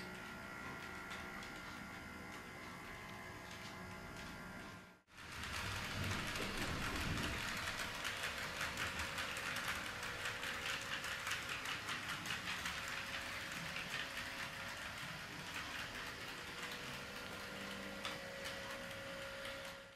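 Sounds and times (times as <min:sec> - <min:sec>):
model train wheels clicking: 0:00.0 - 0:19.9.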